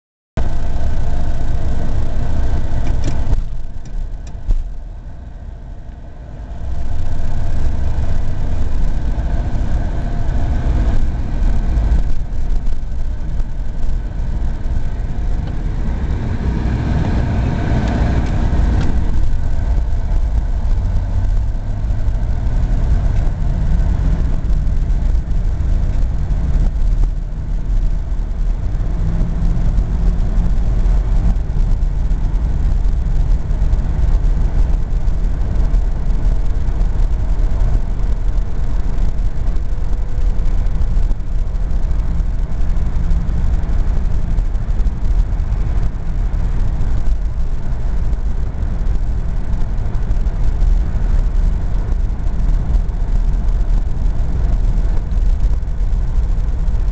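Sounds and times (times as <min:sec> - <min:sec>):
car engine low rumble: 0:00.4 - 0:56.9
road noise: 0:00.4 - 0:56.9.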